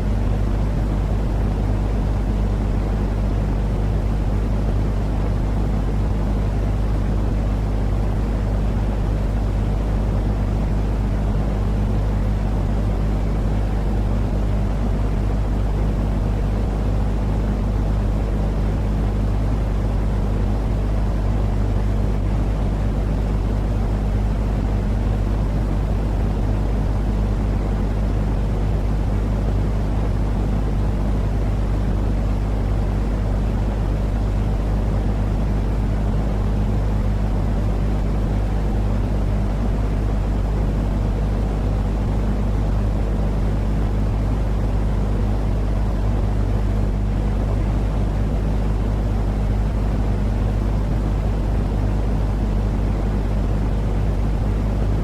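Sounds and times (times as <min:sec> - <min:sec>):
constant low hum: 0:00.0 - 0:55.0
deep rumbling white noise: 0:00.0 - 0:55.0.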